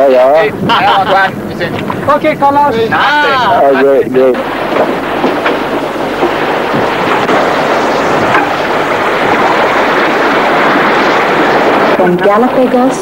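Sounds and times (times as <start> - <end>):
wind and sea rushing: 0.0 - 13.0
wind buffeting microphone: 0.0 - 13.0.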